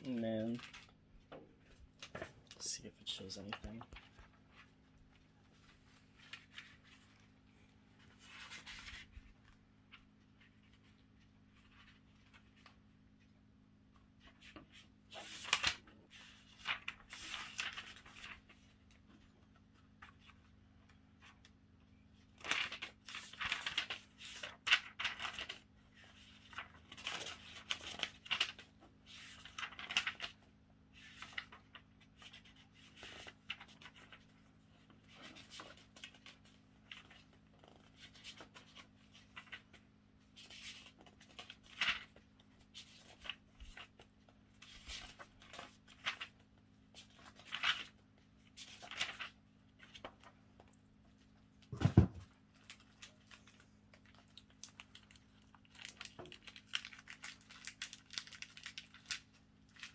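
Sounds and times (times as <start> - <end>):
paper pages rustling: 1.6 - 13.2, 14.0 - 20.6, 22.4 - 59.9.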